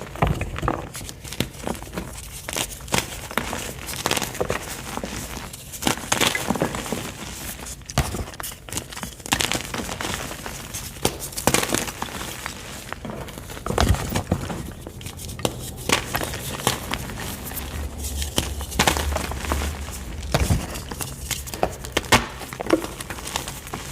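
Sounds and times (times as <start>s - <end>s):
chalk being crushed: 0.9s - 23.9s.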